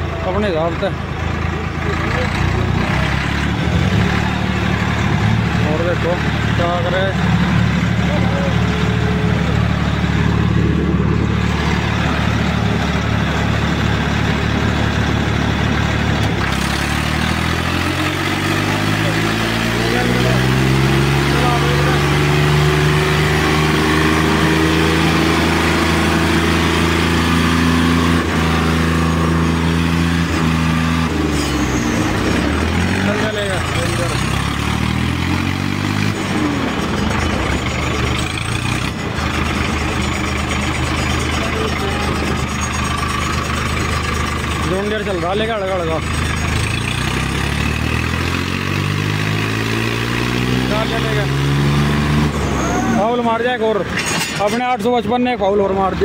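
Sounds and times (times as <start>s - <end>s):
tractor engines idling: 0.0s - 56.0s.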